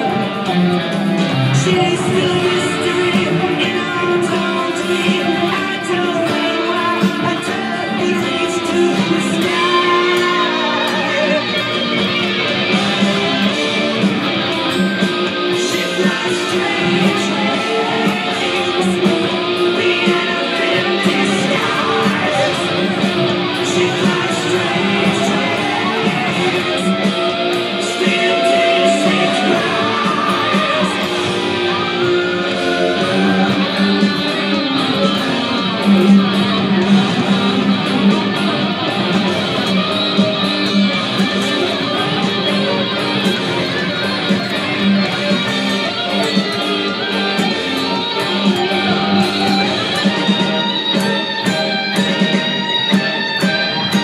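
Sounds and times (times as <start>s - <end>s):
electric guitar lead: 0.0s - 54.0s
rock band backing track: 0.0s - 54.0s.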